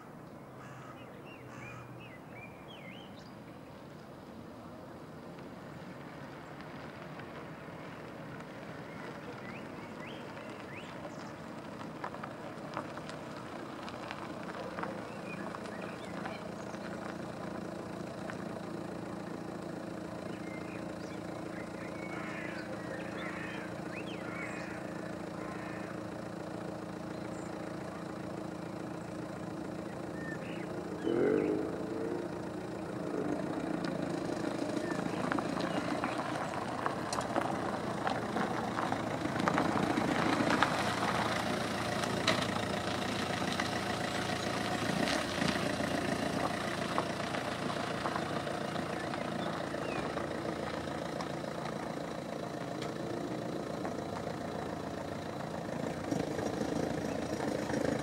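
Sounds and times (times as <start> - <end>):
outdoor noise: 0.0 - 58.0
vehicle engine running: 0.0 - 58.0.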